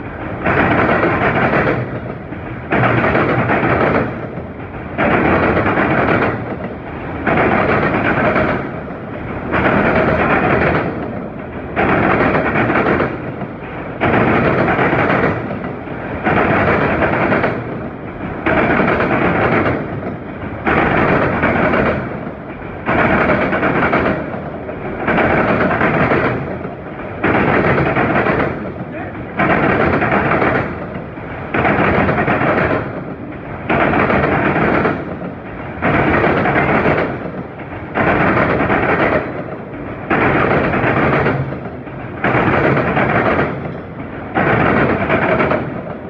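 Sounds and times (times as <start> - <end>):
freight train rolling past: 0.0 - 46.0.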